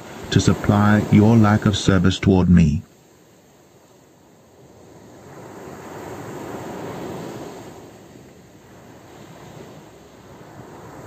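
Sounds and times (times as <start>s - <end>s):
ocean waves washing: 0.0s - 2.8s, 4.6s - 11.0s.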